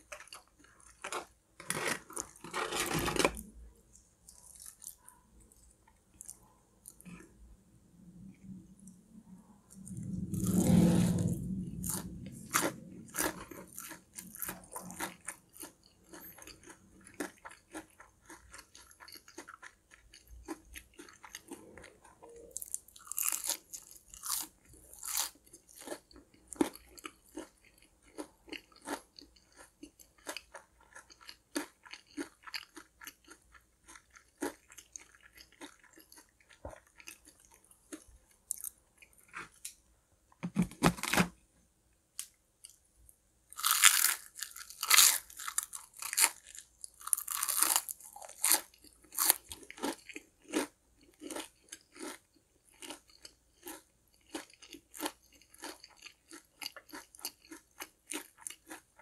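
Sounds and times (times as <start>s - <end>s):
chewing crispy fried food: 0.0s - 7.3s, 9.7s - 39.8s, 42.2s - 59.0s.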